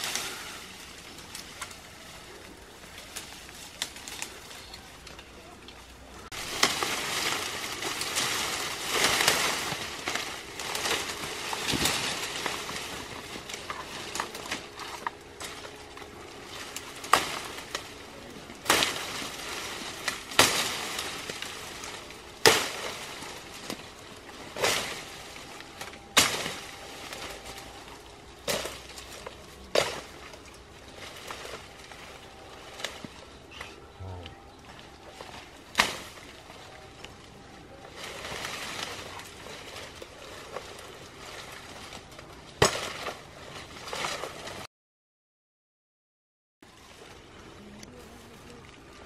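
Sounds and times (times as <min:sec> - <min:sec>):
bamboo leaves rustling: 0:00.0 - 0:44.7, 0:46.6 - 0:49.0
bamboo stems cracking: 0:00.0 - 0:44.7.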